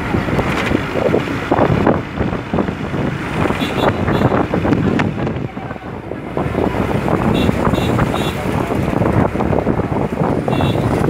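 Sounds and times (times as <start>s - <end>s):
moving vehicle rumble: 0.0s - 11.0s
wind buffeting microphone: 0.0s - 11.0s.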